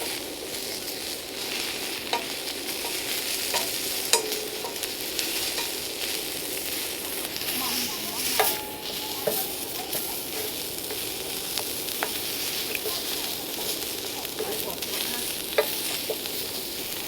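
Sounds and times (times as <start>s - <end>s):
meat sizzling over a fire: 0.0s - 17.0s.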